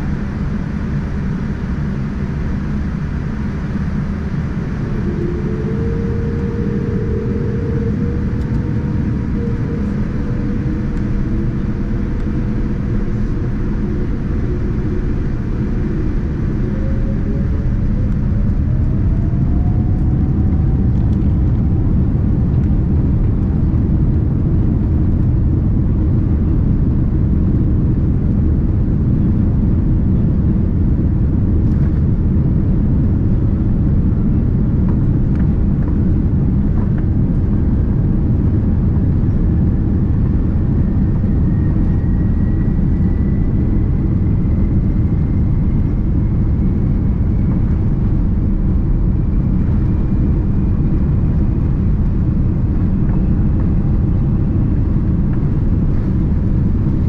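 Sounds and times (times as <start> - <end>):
aircraft cabin rumble: 0.0 - 57.0
faint rising whine: 0.0 - 57.0.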